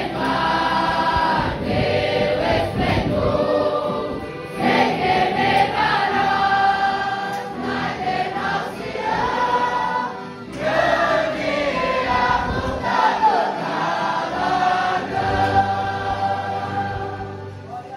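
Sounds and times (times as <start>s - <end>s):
young voices singing a hymn: 0.0s - 17.9s.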